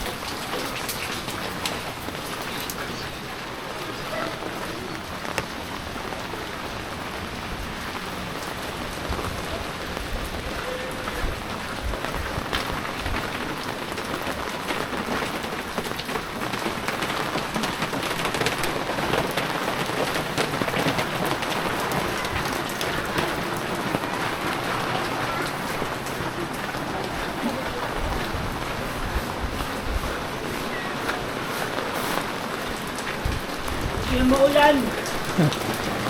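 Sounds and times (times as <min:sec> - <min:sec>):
heavy rain falling: 0:00.0 - 0:36.0
raindrops ticking close by: 0:00.0 - 0:36.0.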